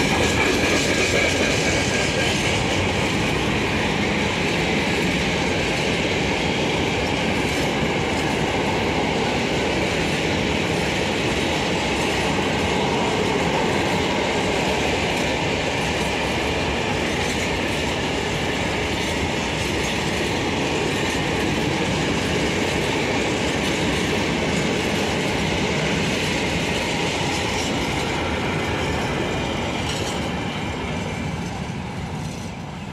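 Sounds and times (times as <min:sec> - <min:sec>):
freight train rolling past: 0:00.0 - 0:32.9.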